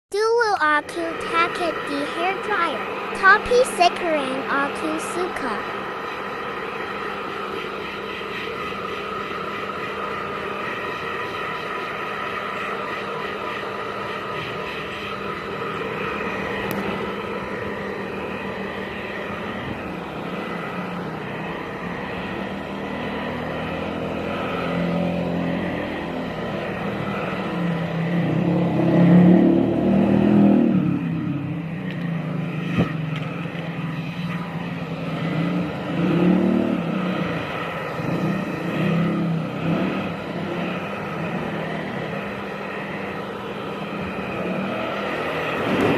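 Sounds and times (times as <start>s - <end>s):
hair dryer running: 0.8s - 45.9s.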